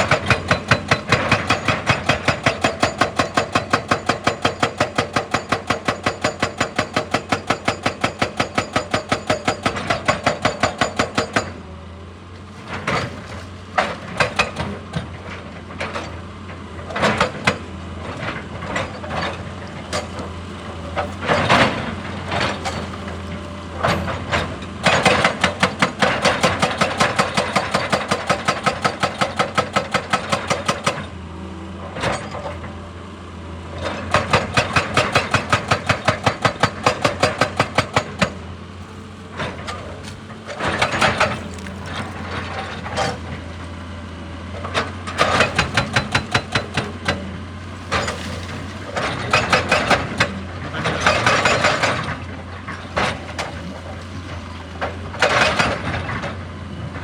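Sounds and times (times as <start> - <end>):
hydraulic breaker hammering rock: 0.0 - 11.8, 12.6 - 16.2, 16.8 - 31.2, 33.8 - 56.4
excavator diesel engine: 0.0 - 57.0.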